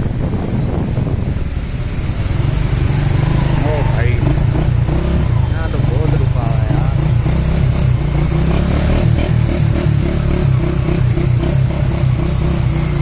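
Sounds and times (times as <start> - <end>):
engine running with pulsing note: 0.0 - 13.0.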